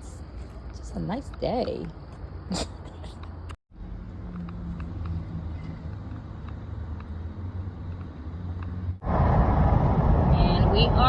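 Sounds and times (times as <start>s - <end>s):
low vehicle hum: 0.0s - 11.0s
truck road noise at speed: 2.1s - 11.0s.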